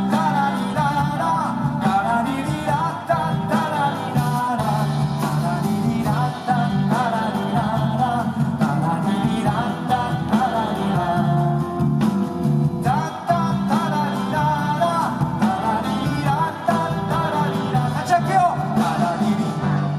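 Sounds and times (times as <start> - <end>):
jazz band playing: 0.0 - 19.9.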